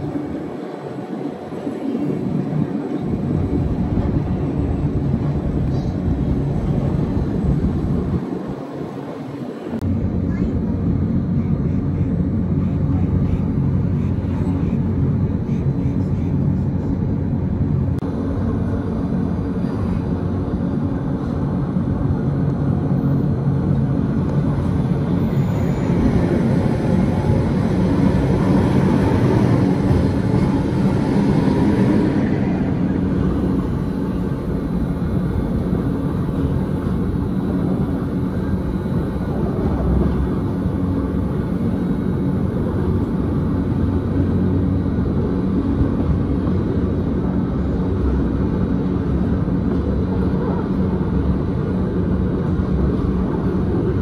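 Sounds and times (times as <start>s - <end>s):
broad rushing noise: 0.0s - 54.0s
train drive humming: 0.0s - 54.0s
wheels rumbling on track: 0.0s - 54.0s.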